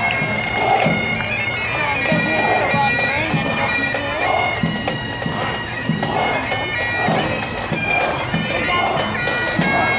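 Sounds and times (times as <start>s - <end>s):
pipe band bagpipes playing: 0.0s - 9.9s.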